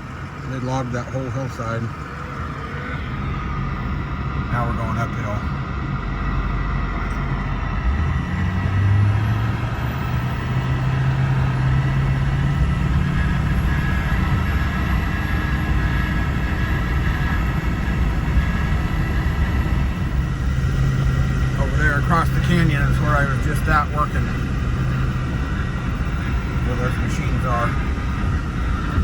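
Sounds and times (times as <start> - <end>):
road noise: 0.0 - 29.0
truck engine drone: 0.0 - 29.0.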